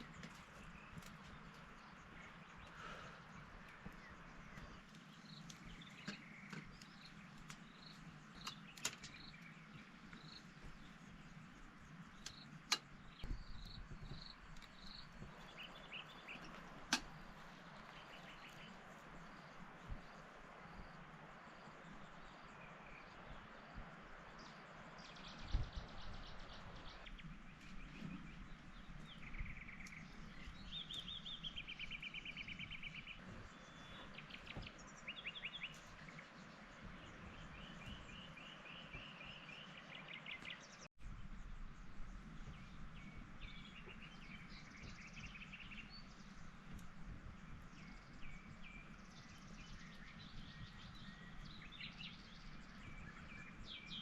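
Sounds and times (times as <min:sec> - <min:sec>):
birds chirping and trilling: 0:00.0 - 0:40.9, 0:42.0 - 0:54.0.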